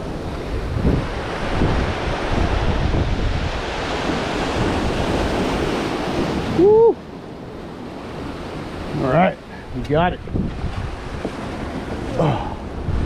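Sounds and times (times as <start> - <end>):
ocean surf washing over rocks: 0.0 - 13.0
wind buffeting microphone: 0.0 - 13.0.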